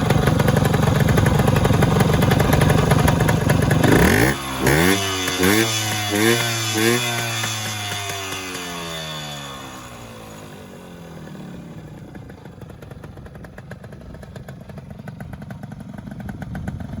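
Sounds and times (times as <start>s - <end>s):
two-stroke engine idling: 0.0s - 17.0s.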